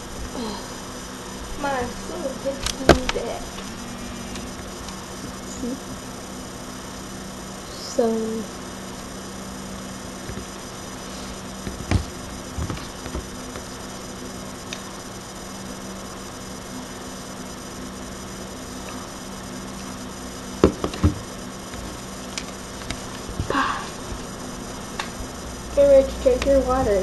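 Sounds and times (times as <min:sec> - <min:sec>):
microphone hiss and electrical hum: 0:00.0 - 0:27.0.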